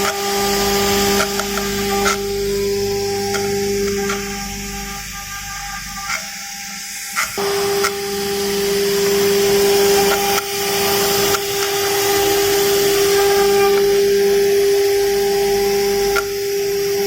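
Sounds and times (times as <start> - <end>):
cutting hiss: 0.0 - 15.0
router spindle whining: 0.0 - 17.0.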